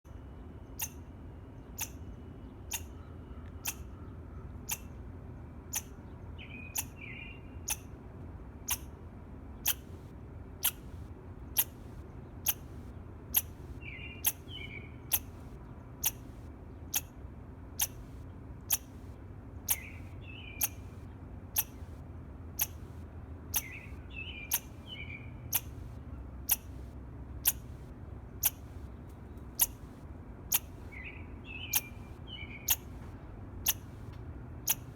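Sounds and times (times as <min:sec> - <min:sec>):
bird calls: 0:00.6 - 0:05.0, 0:05.6 - 0:07.9, 0:10.6 - 0:17.2, 0:17.8 - 0:22.0, 0:22.6 - 0:34.9
squirrel chirping: 0:00.6 - 0:05.0, 0:05.6 - 0:08.0, 0:08.6 - 0:09.0, 0:09.6 - 0:22.0, 0:22.6 - 0:33.0, 0:33.6 - 0:34.9.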